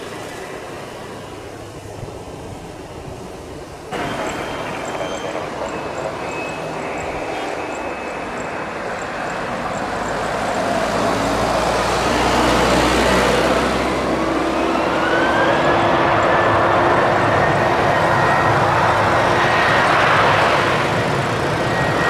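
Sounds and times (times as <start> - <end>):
jet engines running: 0.0 - 22.0
rising jet engine whine: 0.0 - 22.0.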